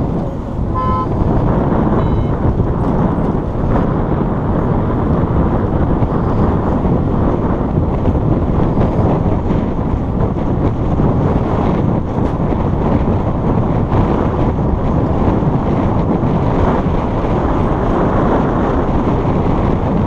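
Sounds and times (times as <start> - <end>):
street traffic: 0.0 - 20.0
wind buffeting microphone: 0.0 - 20.0.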